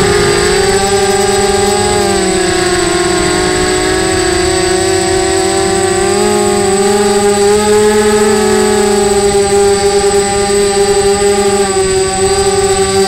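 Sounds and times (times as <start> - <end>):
quadcopter propellers whining: 0.0 - 13.0.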